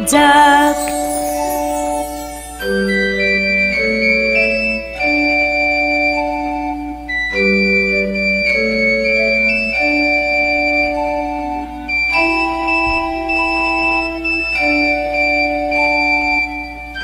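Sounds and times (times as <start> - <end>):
electronic keyboard playing chords: 0.0 - 17.0.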